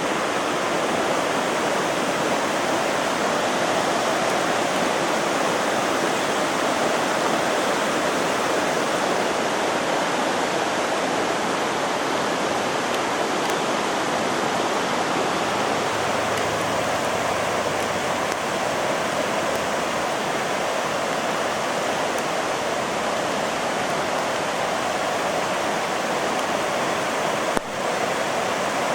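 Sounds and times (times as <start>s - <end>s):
floodwater rushing in creek: 0.0s - 28.9s.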